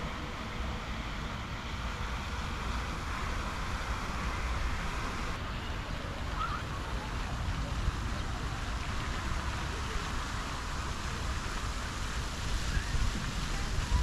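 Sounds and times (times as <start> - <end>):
fountain splashing into pond: 0.0 - 14.0.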